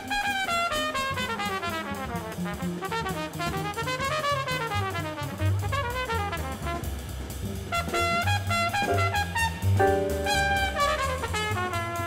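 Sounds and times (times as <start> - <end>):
bass and drums: 0.0 - 12.0
trumpet playing fast runs: 0.0 - 12.0.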